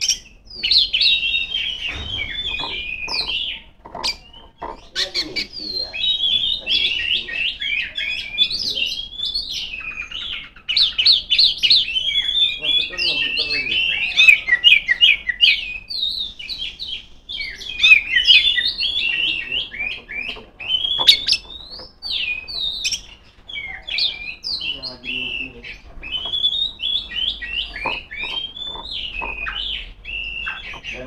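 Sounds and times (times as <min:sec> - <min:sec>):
magpie-robin singing: 0:00.0 - 0:31.0.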